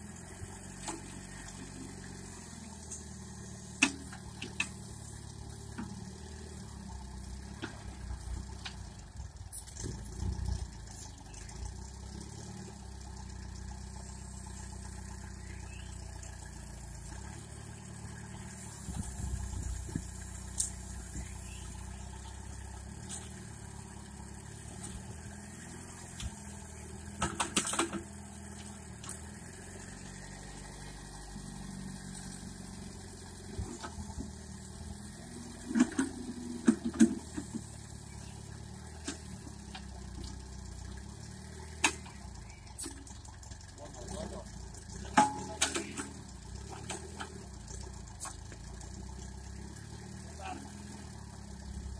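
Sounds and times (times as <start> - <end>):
tractor engine humming: 0.0 - 51.9.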